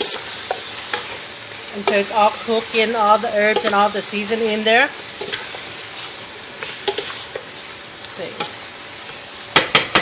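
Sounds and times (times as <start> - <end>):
chicken sizzling in a pot: 0.0 - 10.0.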